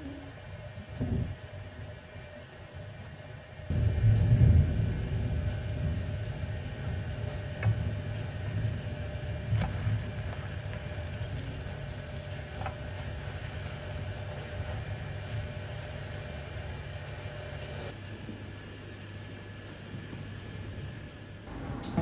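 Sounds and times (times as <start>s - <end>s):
gas stove burner rumble: 2.7s - 22.0s.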